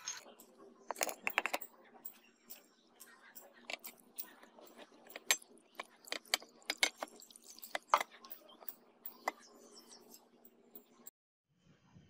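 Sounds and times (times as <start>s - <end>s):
cleaver clicking and clinking: 0.0s - 11.1s.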